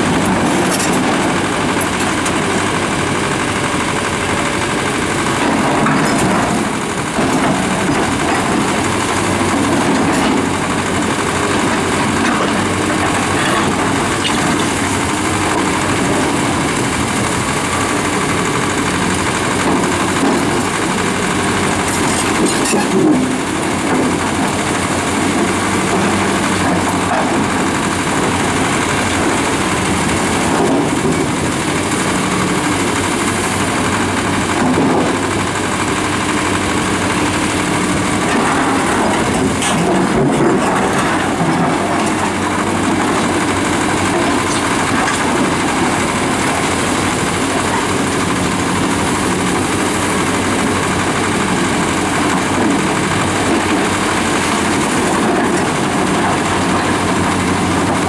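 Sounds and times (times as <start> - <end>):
excavator diesel engines: 0.0 - 58.0.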